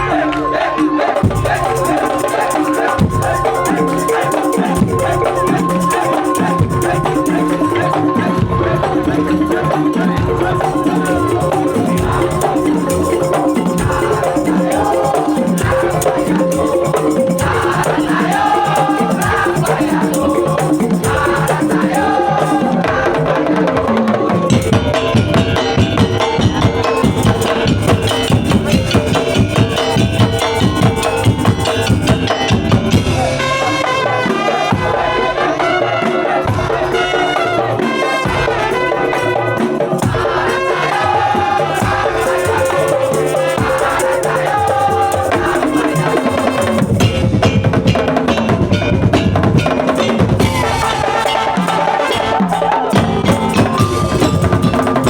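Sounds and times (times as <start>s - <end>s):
steady drumming: 0.0s - 35.7s, 36.3s - 55.0s
rattling percussion: 0.0s - 55.0s.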